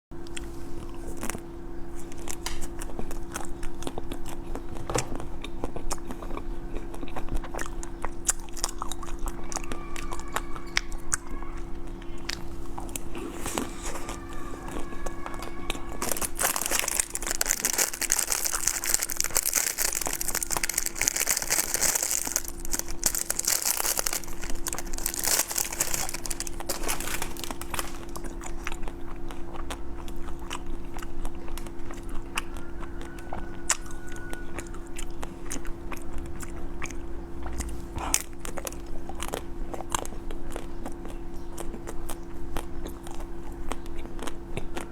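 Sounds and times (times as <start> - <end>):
crunchy chewing: 0.2 - 44.9.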